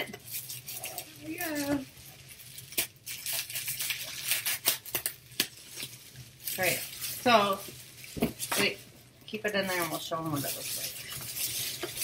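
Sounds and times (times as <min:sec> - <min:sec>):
foil wrap crinkling: 0:00.0 - 0:12.0.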